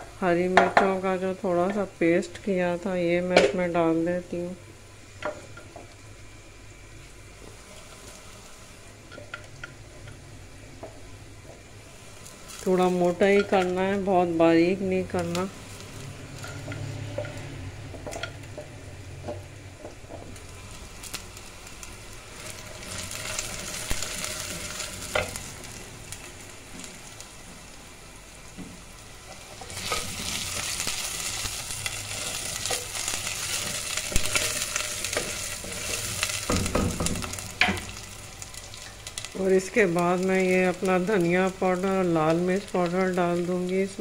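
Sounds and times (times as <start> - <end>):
onions sizzling in oil: 0.0 - 44.0.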